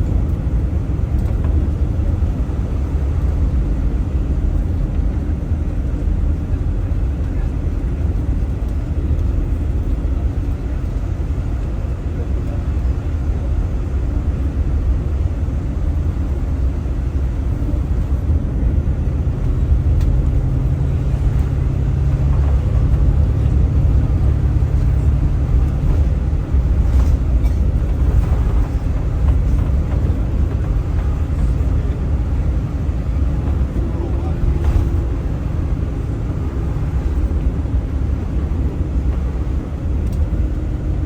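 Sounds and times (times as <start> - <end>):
car engine rumble: 0.0 - 41.0
low engine hum: 0.0 - 41.0
road noise: 0.0 - 41.0.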